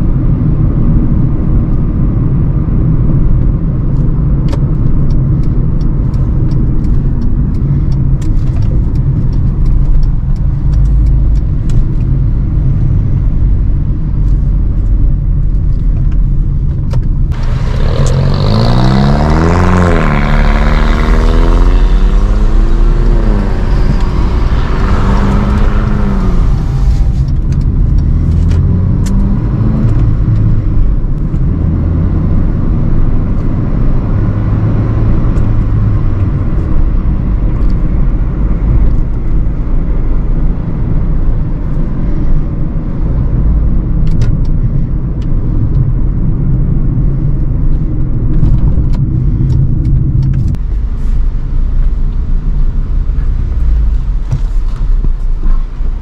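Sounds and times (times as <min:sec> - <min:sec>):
car engine running: 0:00.0 - 0:56.0
road and tyre rumble: 0:00.0 - 0:56.0.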